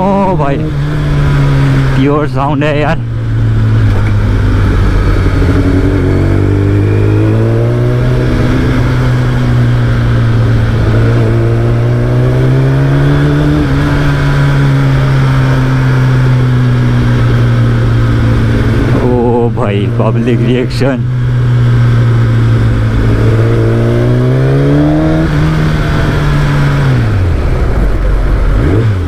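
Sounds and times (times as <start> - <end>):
motorcycle engine at part throttle: 0.0 - 29.0.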